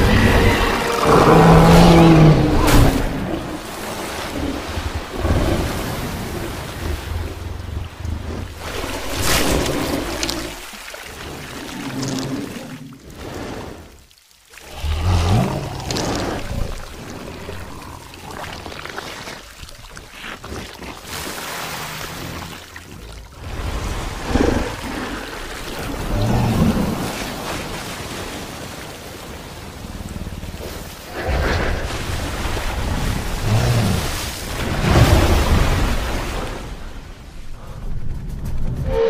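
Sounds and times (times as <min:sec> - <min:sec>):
heavy water splashing: 0:00.0 - 0:37.6.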